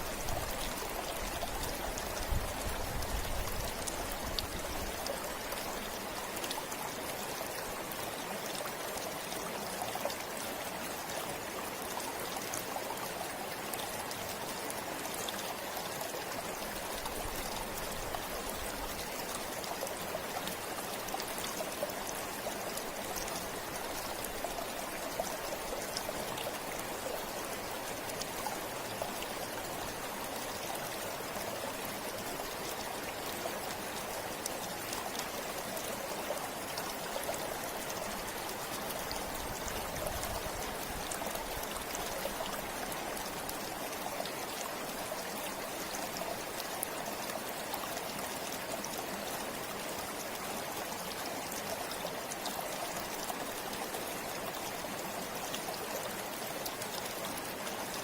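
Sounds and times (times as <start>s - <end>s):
river flowing over stones: 0.0s - 58.0s.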